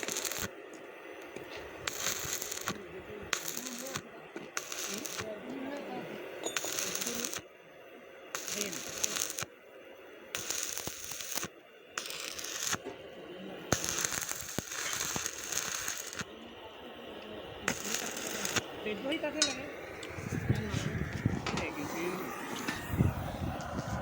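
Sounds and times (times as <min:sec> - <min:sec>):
arc welding crackling: 0:00.0 - 0:07.5, 0:08.3 - 0:09.6, 0:10.2 - 0:24.0.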